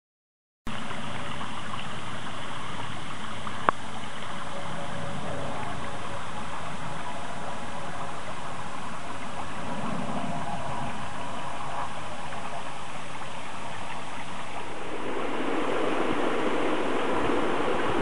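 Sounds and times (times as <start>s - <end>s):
stream water rushing over stones: 0.7s - 18.0s.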